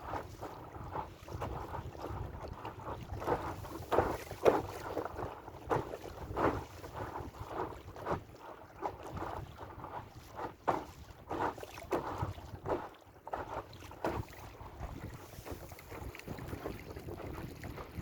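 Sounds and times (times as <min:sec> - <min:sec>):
water splashing against hull: 0:00.0 - 0:18.0
wind rumbling on microphone: 0:00.0 - 0:18.0.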